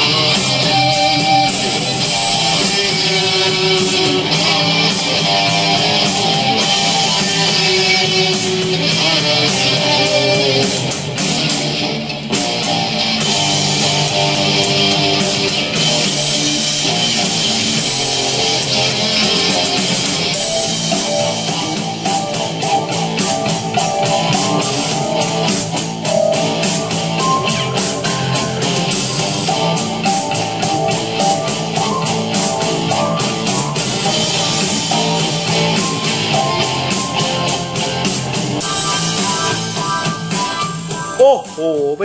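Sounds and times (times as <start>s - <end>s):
rock music with guitar: 0.0s - 42.0s
steady drum beat: 0.0s - 42.0s.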